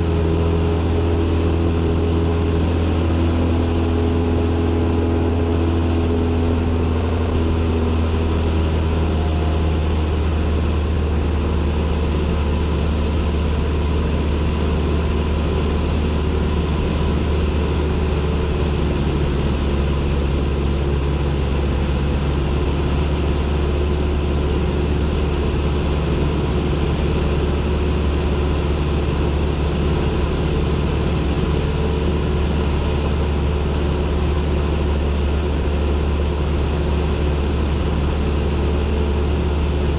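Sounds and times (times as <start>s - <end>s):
airplane engine droning in cockpit: 0.0s - 39.9s.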